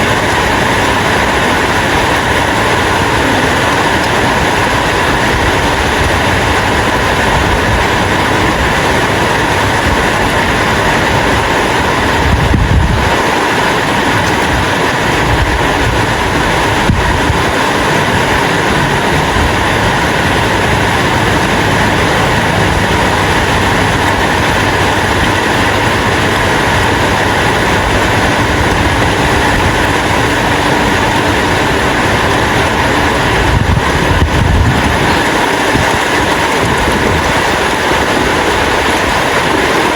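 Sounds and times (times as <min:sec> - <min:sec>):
heavy rain falling: 0:00.0 - 0:39.9
low rumbles: 0:00.0 - 0:39.9.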